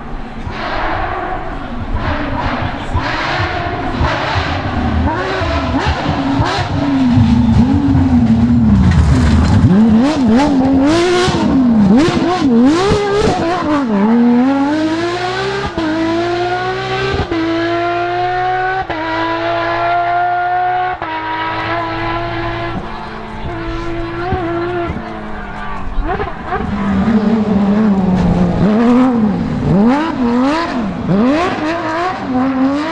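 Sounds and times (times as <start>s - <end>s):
rally car engine at full throttle: 0.0s - 32.9s.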